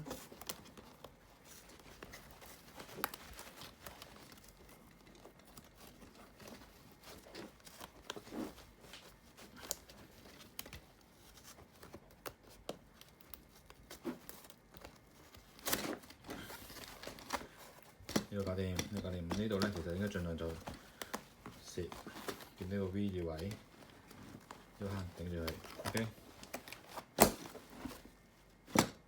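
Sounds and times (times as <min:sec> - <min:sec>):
scraping and rustling: 0:00.0 - 0:29.0.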